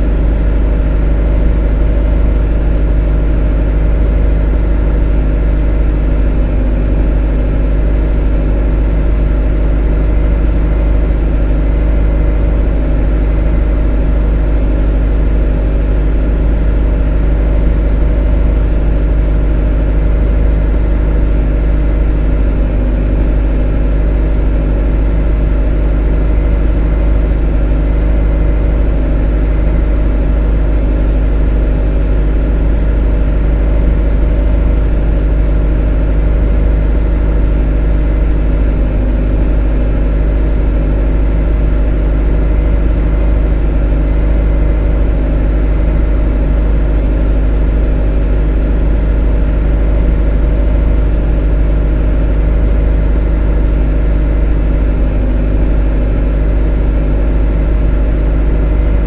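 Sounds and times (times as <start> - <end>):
motor running steadily: 0.0 - 59.0.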